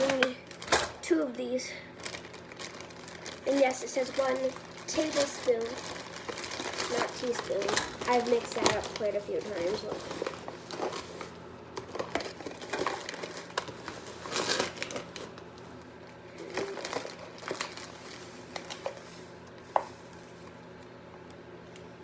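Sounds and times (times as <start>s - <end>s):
plastic bag crinkling: 0.0s - 20.8s.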